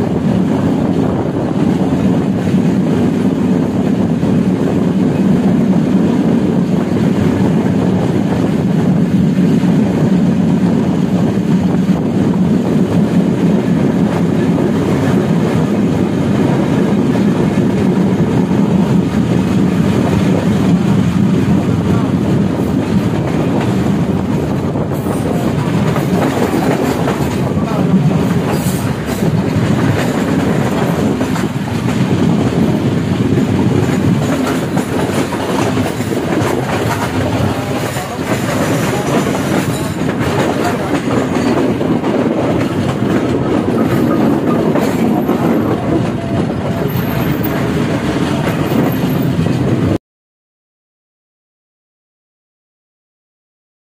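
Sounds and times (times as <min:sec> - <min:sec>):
clickety-clack over rail joints: 0:00.0 - 0:50.0
train wheels rumbling on rails: 0:00.0 - 0:50.0.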